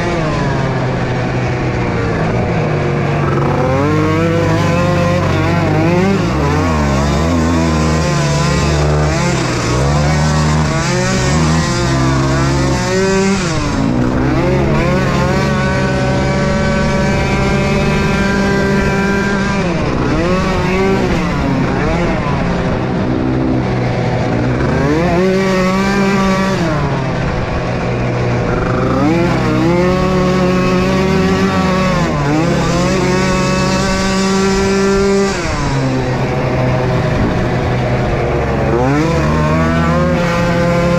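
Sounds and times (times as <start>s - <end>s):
small atv engines revving: 0.0s - 40.9s.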